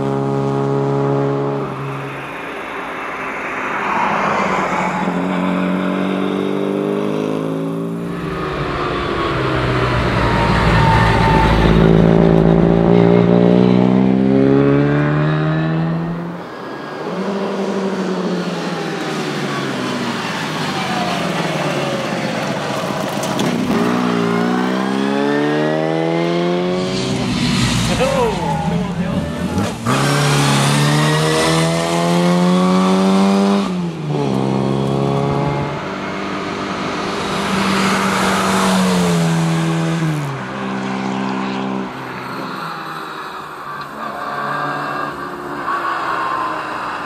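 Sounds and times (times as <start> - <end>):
rally car engine revving: 3.9 - 47.0.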